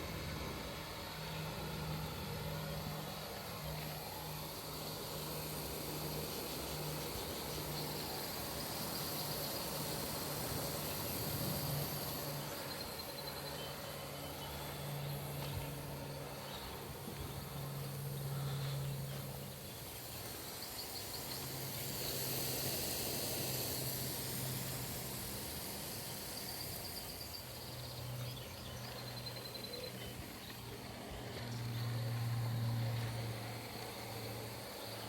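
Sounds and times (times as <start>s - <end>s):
low hum: 0.0s - 35.0s
sprinklers spraying water: 0.0s - 35.0s
insect chirps: 0.8s - 30.8s.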